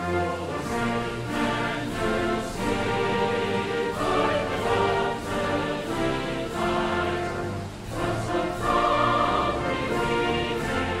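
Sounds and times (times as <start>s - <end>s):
choir singing sustained notes: 0.0s - 11.0s.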